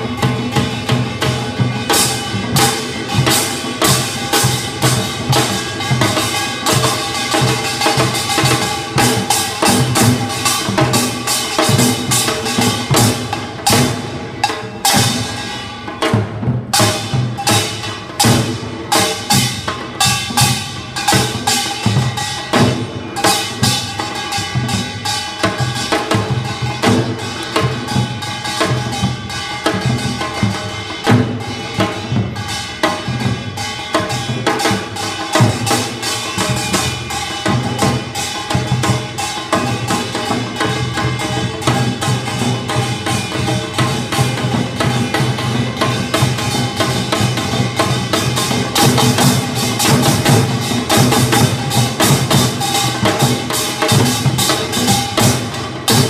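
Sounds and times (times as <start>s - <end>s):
barrel drums beaten with sticks: 0.0s - 56.0s.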